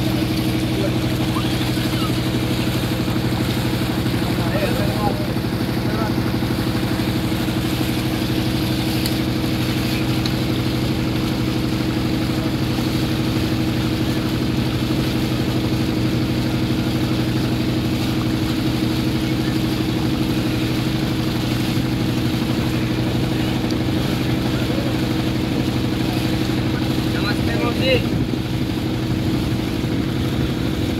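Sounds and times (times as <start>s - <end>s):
motorboat engine running: 0.0s - 30.9s.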